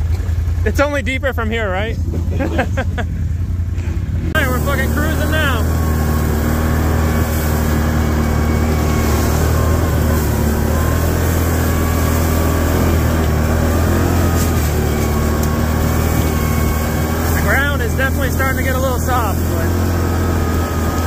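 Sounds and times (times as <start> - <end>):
atv engine droning: 0.0 - 21.0.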